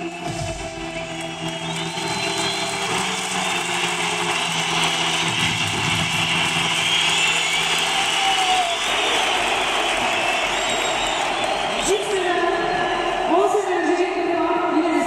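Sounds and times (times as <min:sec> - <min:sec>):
music: 0:00.0 - 0:15.0
stadium crowd cheering: 0:00.0 - 0:15.0.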